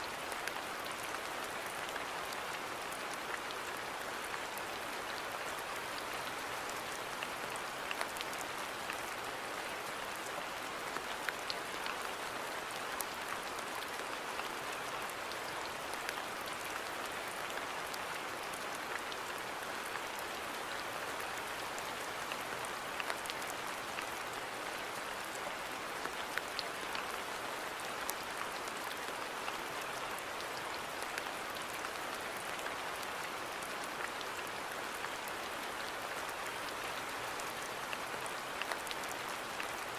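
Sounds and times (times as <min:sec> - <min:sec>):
rain falling on a garden: 0:00.0 - 0:39.9.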